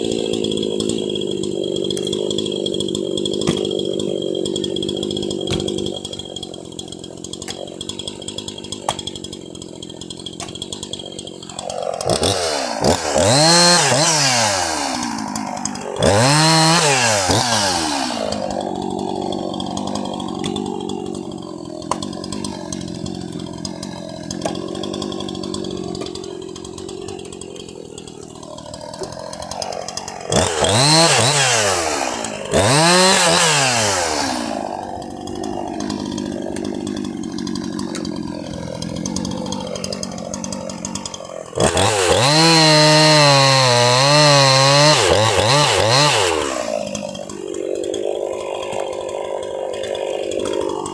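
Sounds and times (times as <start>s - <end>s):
chainsaw idling and revving: 0.0s - 50.9s.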